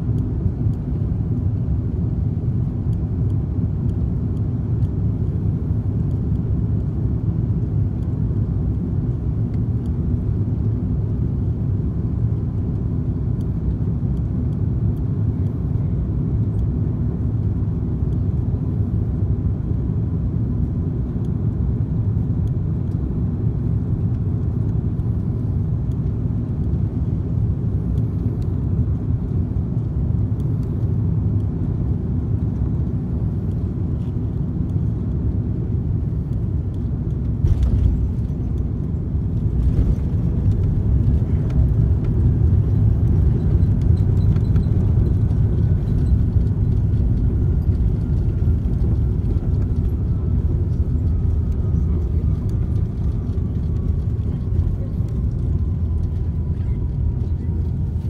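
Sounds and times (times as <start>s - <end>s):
aircraft engine and airflow noise: 0.0s - 58.0s.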